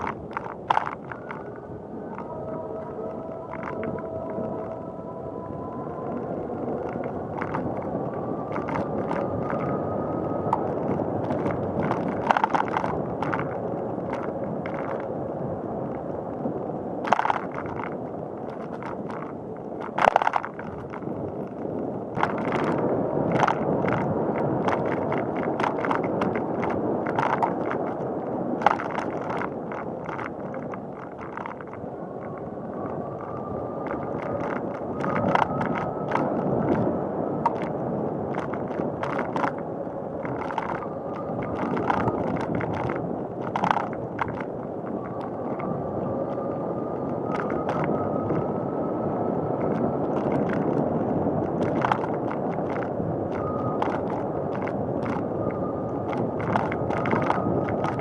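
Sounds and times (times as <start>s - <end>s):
bicycle tyre and road noise: 0.0s - 58.0s
faint thin whine: 0.0s - 58.0s.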